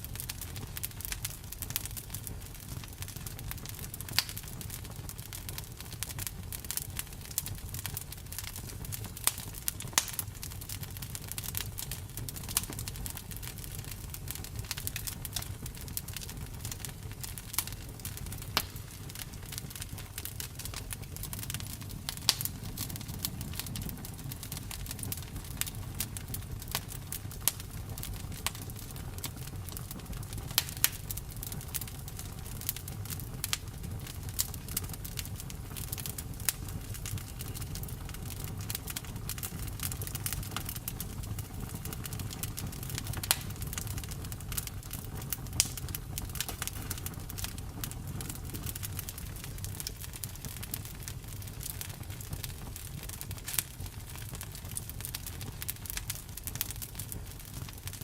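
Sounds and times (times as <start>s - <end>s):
campfire wood crackling: 0.0s - 58.0s
low fire rumble: 0.0s - 58.0s.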